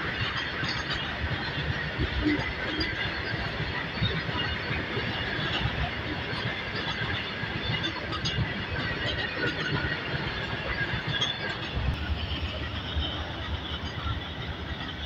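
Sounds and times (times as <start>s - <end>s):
faint high wheel squeals: 0.0s - 15.0s
freight wagons rumbling on rails: 0.0s - 15.0s.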